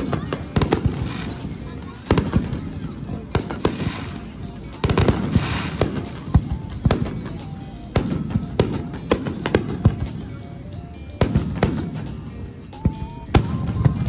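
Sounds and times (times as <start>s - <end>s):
fireworks bursting with echoing bangs: 0.0s - 10.4s, 11.1s - 14.0s
melodic music: 0.0s - 14.0s.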